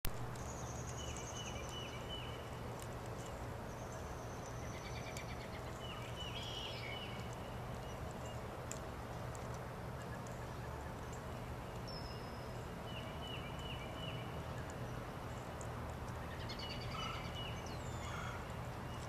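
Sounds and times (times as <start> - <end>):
low outdoor background hum: 0.0 - 19.0
songbirds singing: 0.1 - 19.0.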